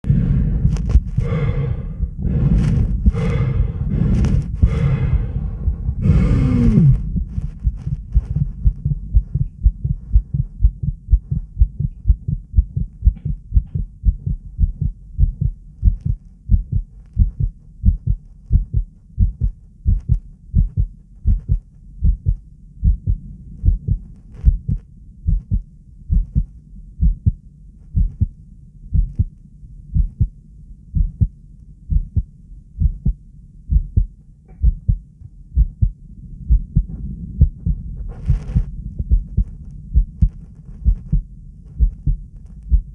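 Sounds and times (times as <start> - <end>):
heartbeat thumps: 0.0 - 42.9.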